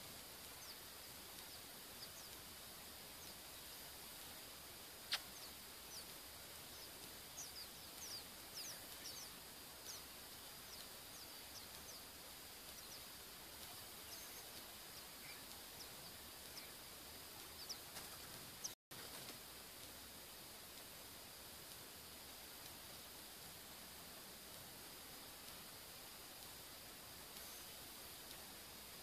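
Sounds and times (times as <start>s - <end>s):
background hiss: 0.0s - 29.0s
small birds chirping: 0.0s - 29.0s.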